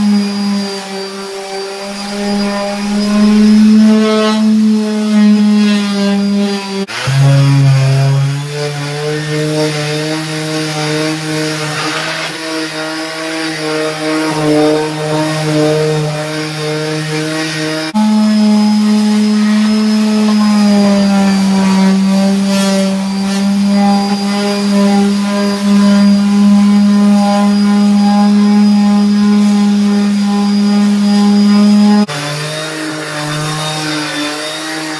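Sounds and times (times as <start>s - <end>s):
detail sander higher-pitched hum: 0.0s - 34.9s
orbital sander humming on wood: 0.0s - 34.9s.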